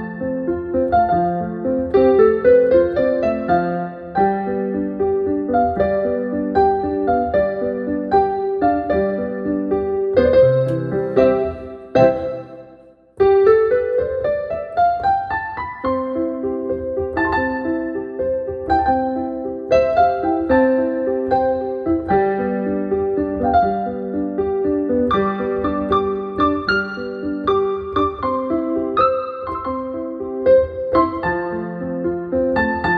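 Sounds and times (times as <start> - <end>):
digital piano broken chords: 0.0 - 32.9.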